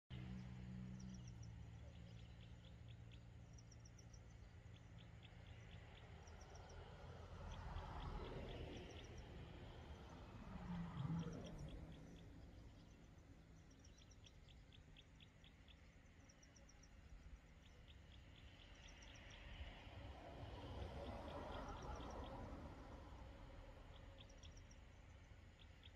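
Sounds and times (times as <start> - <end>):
low background rumble: 0.1 - 25.9
small bird chirping trills: 0.1 - 25.9.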